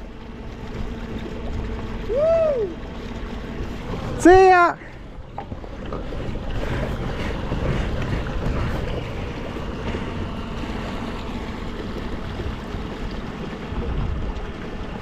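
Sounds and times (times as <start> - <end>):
water rushing along hull: 0.0 - 15.0
wind buffeting microphone: 0.7 - 15.0.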